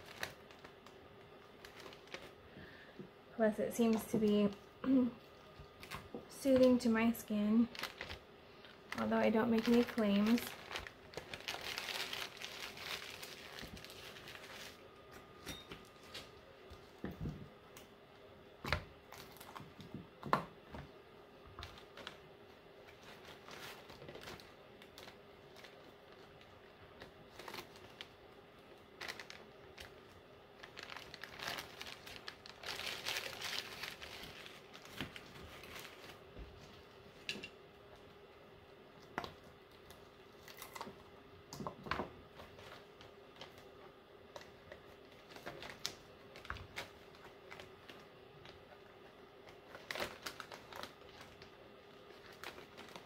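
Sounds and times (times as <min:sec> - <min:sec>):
paper filters crinkling: 0:00.0 - 0:15.1, 0:18.7 - 0:20.2, 0:20.8 - 0:41.1, 0:42.2 - 0:53.0.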